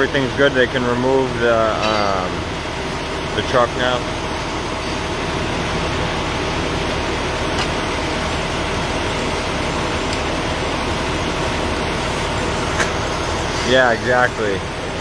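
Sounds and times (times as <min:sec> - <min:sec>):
large vehicle engine idling: 0:00.0 - 0:15.0.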